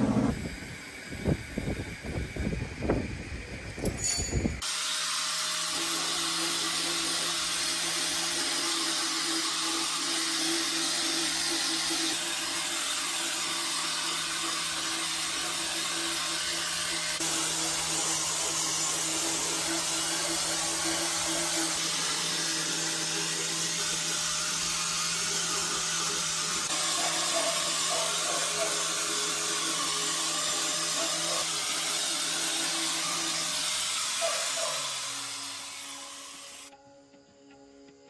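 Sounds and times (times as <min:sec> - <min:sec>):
power tool motor whining: 0:00.0 - 0:03.8, 0:04.5 - 0:36.7.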